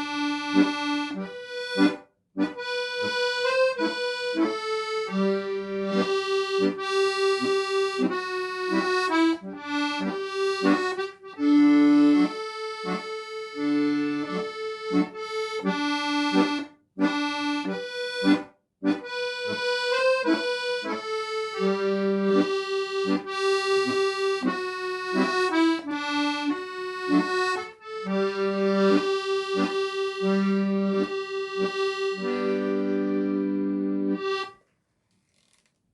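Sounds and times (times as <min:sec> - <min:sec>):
accordion melody with bass chords: 0:00.0 - 0:34.6.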